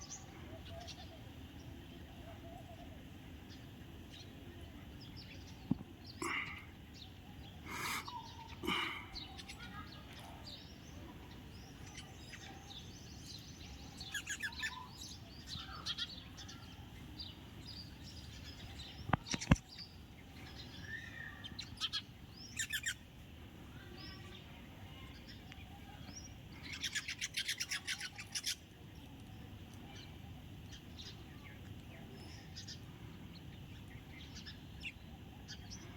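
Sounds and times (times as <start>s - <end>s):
sparrows chirping: 0.0s - 35.9s.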